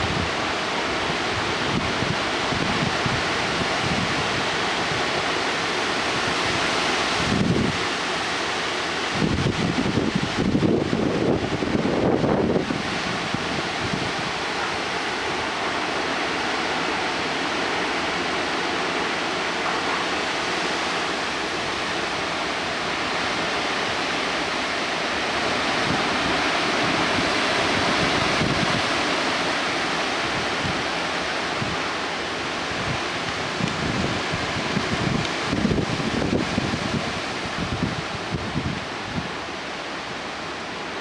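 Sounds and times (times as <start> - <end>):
wind buffeting microphone: 0.0 - 8.0, 9.0 - 15.8, 19.7 - 40.4
loud roar of high wind: 0.0 - 41.0.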